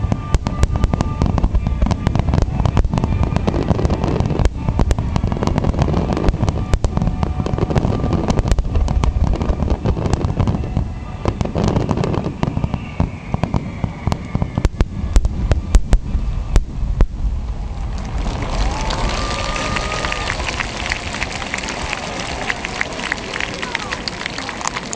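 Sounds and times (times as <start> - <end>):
fireworks booming and crackling: 0.0 - 24.9.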